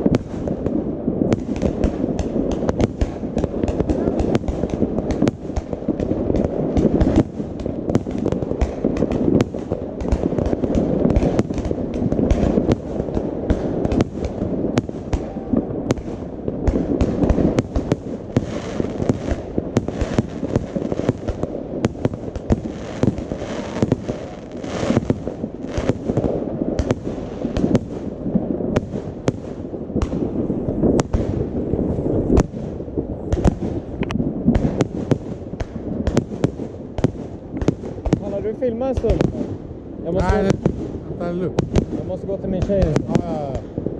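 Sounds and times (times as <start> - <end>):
low rumble: 0.0 - 38.6
fireworks bangs: 0.0 - 43.9.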